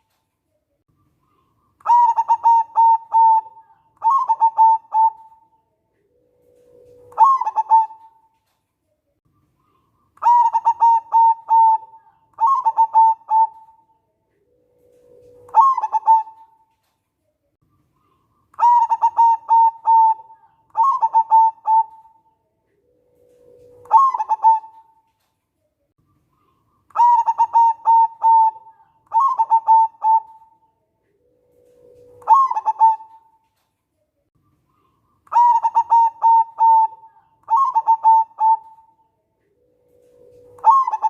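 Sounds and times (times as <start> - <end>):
dove cooing: 1.3 - 8.3, 9.7 - 16.7, 18.0 - 25.1, 26.4 - 33.4, 34.7 - 41.0.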